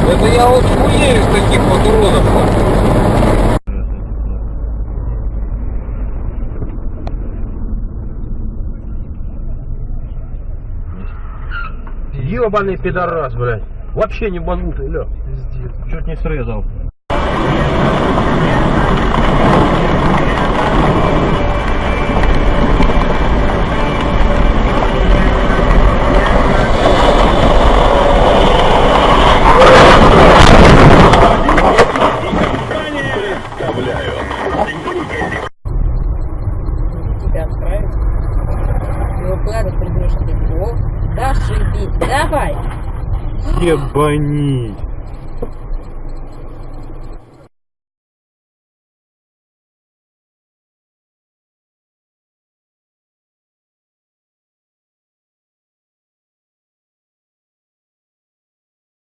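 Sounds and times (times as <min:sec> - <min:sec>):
car interior engine rumble: 0:00.0 - 0:47.5.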